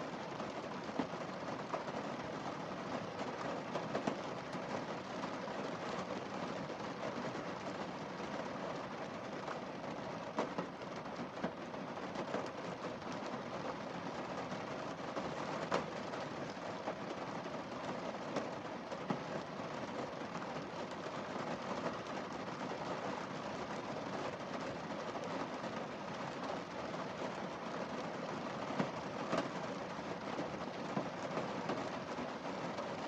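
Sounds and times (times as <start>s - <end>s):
rain on car windscreen: 0.0s - 33.0s.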